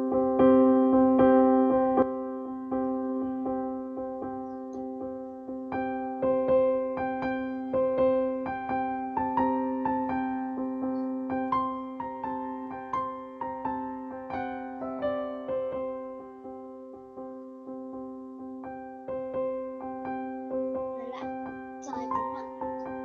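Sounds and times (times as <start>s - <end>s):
soft electric piano music: 0.0s - 23.0s.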